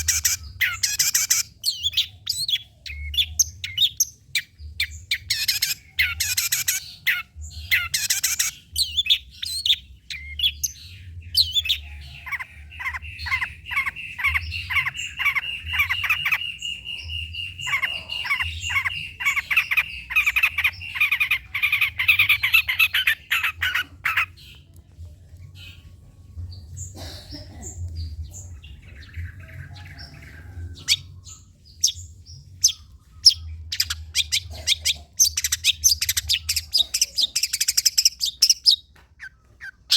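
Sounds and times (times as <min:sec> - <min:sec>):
bird chattering song: 0:00.0 - 0:24.8, 0:26.6 - 0:39.9.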